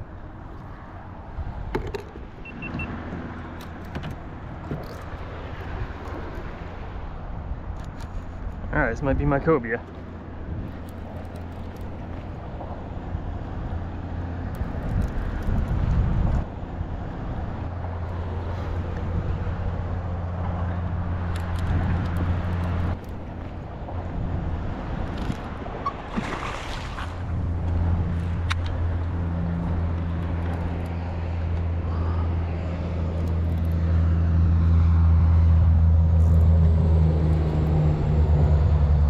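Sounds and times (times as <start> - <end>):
boat motor humming: 0.0 - 8.6, 9.7 - 39.0.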